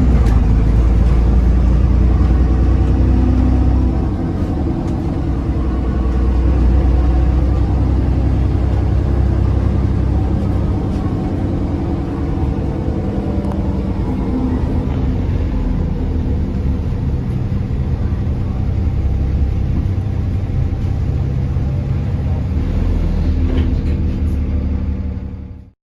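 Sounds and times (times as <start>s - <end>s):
bus diesel engine droning: 0.0s - 25.8s.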